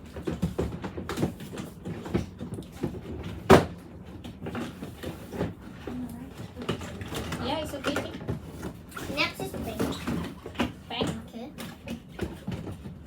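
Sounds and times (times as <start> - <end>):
drawers knocking and scraping: 0.0 - 13.0.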